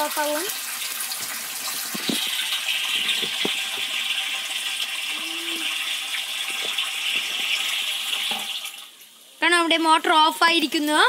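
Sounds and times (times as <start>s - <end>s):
water pouring into a tank: 0.0s - 9.3s.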